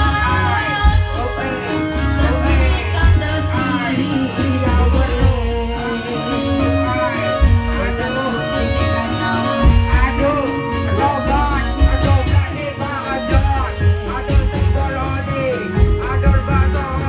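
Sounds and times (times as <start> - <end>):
heavy uneven drum beats: 0.0 - 17.0
sung melody: 0.0 - 17.0.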